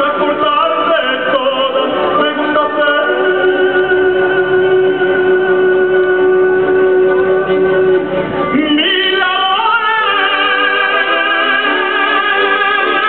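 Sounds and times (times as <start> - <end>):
operatic tenor singing: 0.0 - 13.0
symphony orchestra playing: 0.0 - 13.0.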